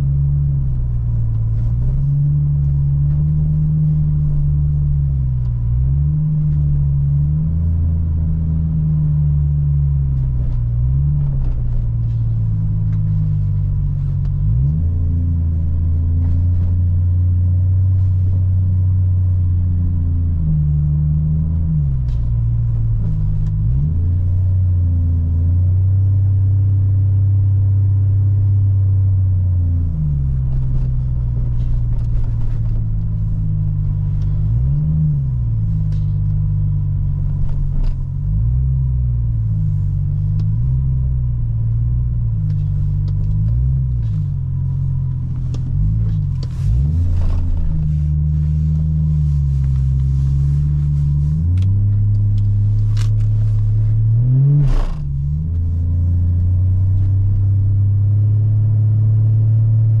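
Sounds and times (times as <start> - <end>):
car engine while driving: 0.0 - 60.0.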